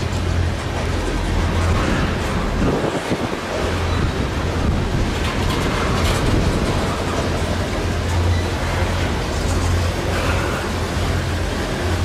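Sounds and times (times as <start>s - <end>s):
train wheels rumbling on rail: 0.0s - 12.0s
wind buffeting microphone: 0.0s - 12.0s.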